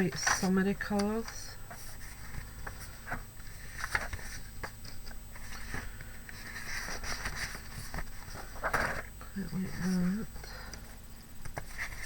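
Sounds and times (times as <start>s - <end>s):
paper rustling and crinkling: 1.2s - 10.7s, 11.4s - 12.0s.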